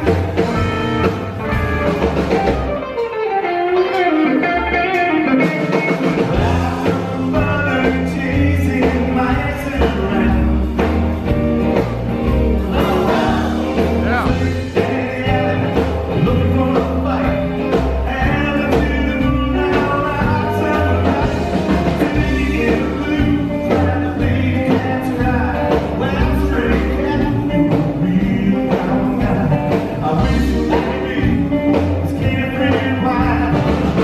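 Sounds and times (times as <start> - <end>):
upright bass: 0.0 - 2.8, 4.5 - 34.0
drums: 0.0 - 34.0
keyboard: 0.0 - 34.0
live rockabilly band: 0.0 - 34.0.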